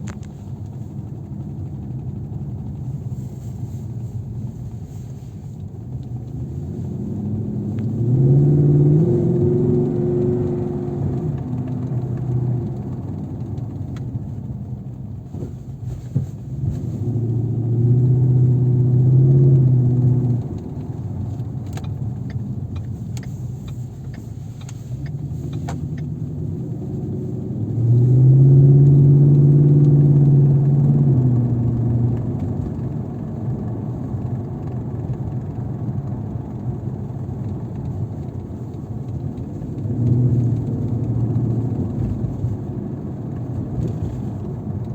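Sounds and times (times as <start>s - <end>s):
car engine droning: 0.0s - 44.9s.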